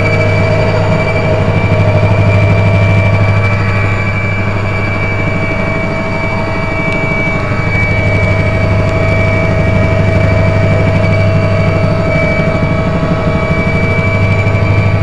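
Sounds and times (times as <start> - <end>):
helicopter drone inside cabin: 0.0 - 15.0
turbine engine whines: 0.0 - 15.0.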